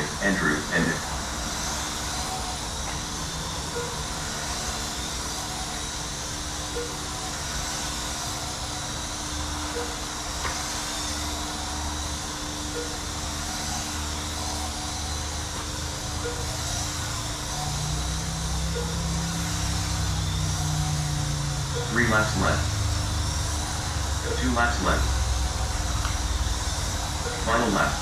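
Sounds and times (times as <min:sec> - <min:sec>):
whirring of small electric motors: 0:00.0 - 0:28.0.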